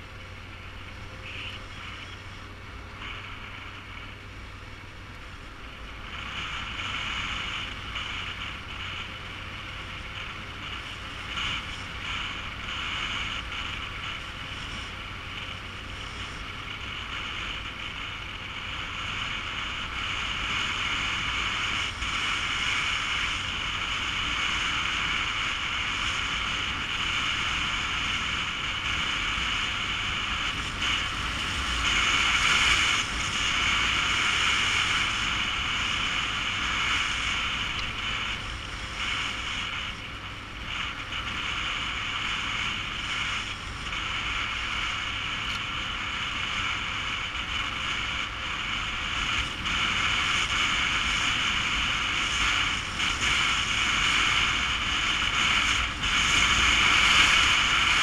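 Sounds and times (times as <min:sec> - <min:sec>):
motorcycle engine rumble: 0:00.0 - 0:58.0
tyres on dirt road: 0:00.0 - 0:58.0
wind rushing over microphone: 0:00.0 - 0:58.0.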